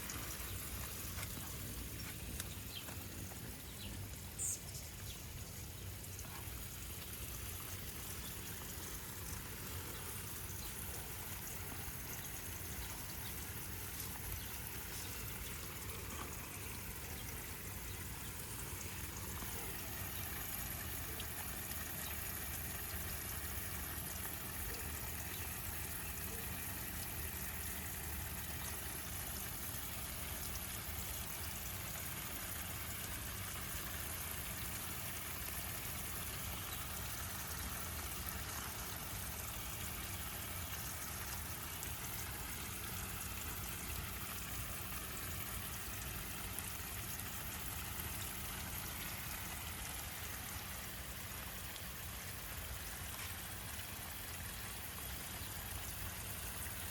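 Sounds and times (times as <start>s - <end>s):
low outdoor rumble: 0.0s - 56.8s.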